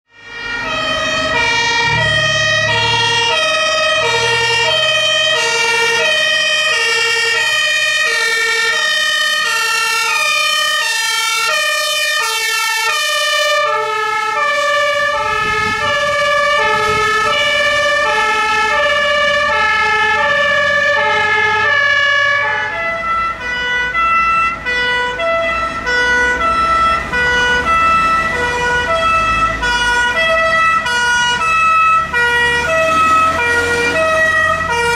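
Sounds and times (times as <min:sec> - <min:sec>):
truck engine rumbling: 0:00.1 - 0:34.9
two-tone fire engine sirens: 0:00.1 - 0:34.9.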